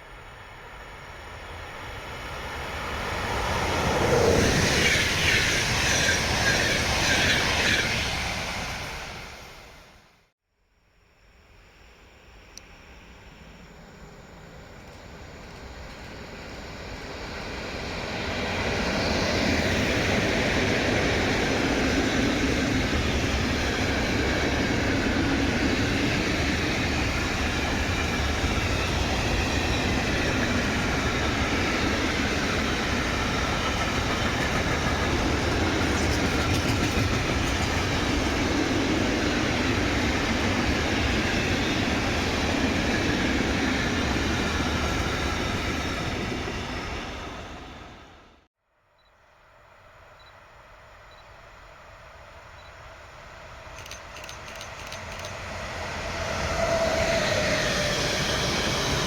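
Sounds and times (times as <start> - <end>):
train passing: 0.0 - 10.2, 11.7 - 48.5, 49.4 - 59.0.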